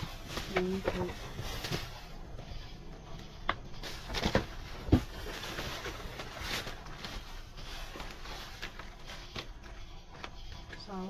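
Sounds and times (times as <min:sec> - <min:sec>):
plastic bags rustling: 0:00.0 - 0:02.5, 0:03.7 - 0:11.0
items being handled: 0:00.0 - 0:11.0.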